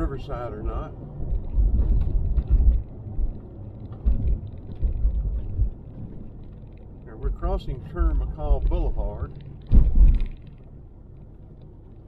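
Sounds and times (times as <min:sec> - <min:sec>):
car road noise and rumble: 0:00.0 - 0:12.0.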